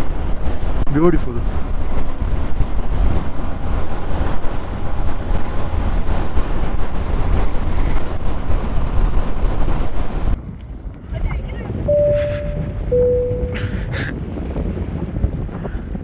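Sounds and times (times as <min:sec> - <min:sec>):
wind buffeting on microphone: 0:00.0 - 0:16.0.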